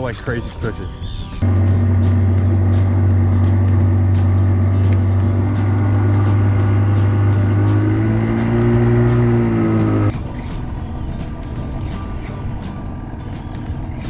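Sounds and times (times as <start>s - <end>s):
boat motor running: 1.4s - 14.0s.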